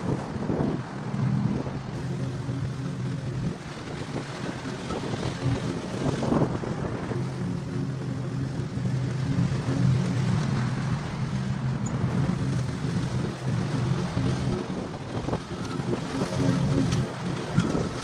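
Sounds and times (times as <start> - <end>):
constant hiss: 0.0 - 18.0
small gasoline engine running: 2.0 - 18.0.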